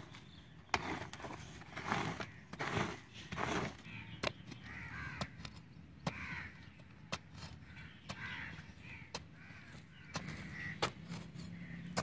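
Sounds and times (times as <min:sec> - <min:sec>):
hand spade chopping stony soil: 0:00.7 - 0:12.0
bird calling: 0:02.1 - 0:12.0.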